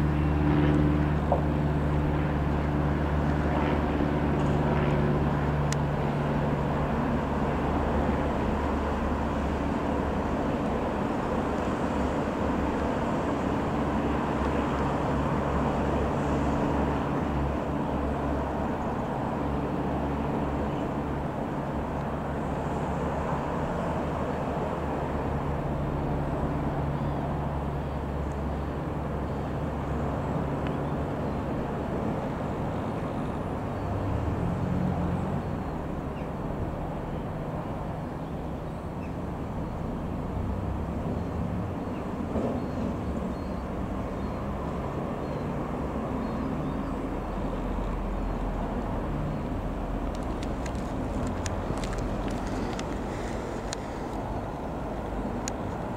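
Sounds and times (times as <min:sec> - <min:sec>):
propeller airplane engine droning: 0:00.0 - 0:55.9.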